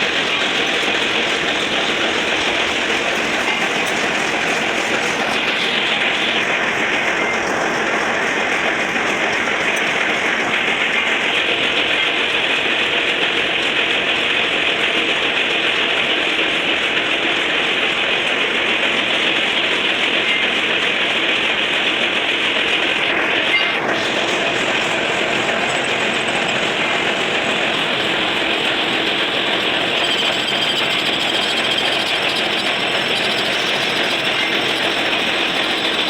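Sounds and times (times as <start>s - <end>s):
metal lathe running: 0.0s - 36.0s.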